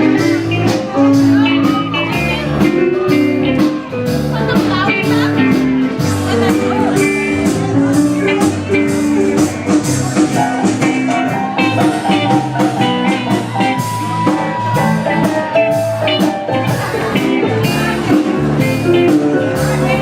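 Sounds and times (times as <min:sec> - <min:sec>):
live band playing instrumental: 0:00.0 - 0:20.0.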